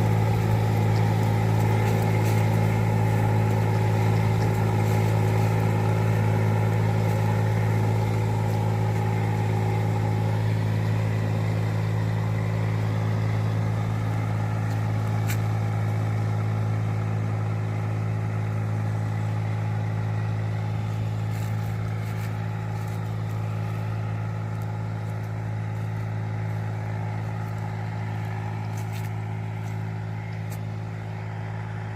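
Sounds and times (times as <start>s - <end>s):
engine running steadily: 0.0s - 31.9s.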